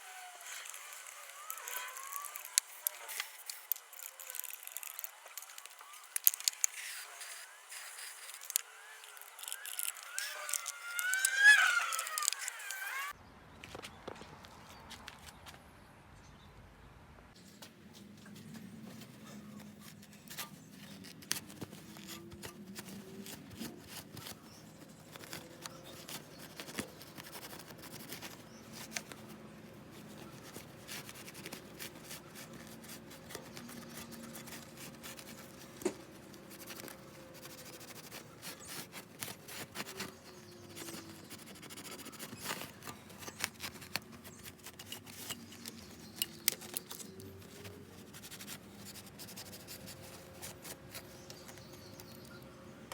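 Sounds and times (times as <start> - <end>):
tools scraping on engine parts: 0.0 - 13.2, 18.4 - 52.4.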